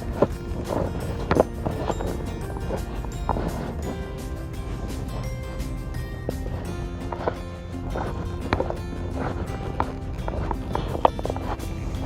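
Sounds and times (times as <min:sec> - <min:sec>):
background music with held notes: 0:00.0 - 0:12.0
low steady rumble: 0:00.0 - 0:12.0.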